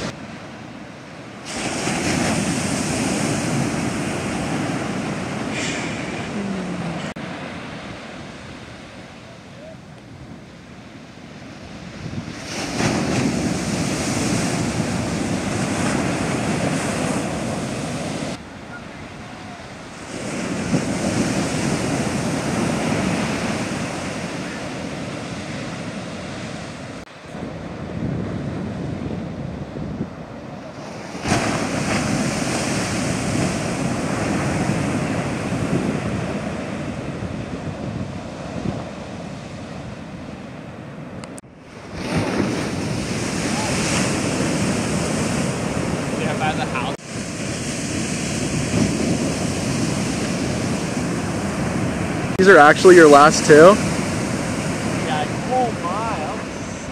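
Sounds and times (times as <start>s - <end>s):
surf washing: 0.0s - 56.9s
waves crashing: 0.0s - 56.9s
wind buffeting microphone: 0.0s - 56.9s.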